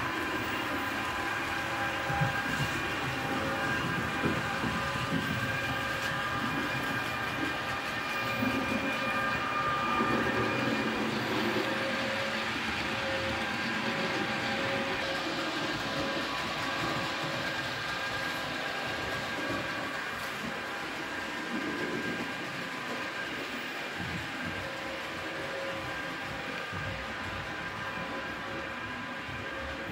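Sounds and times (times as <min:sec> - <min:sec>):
model train motors whining: 0:00.0 - 0:29.9
small wheels rolling on rails: 0:00.0 - 0:29.9.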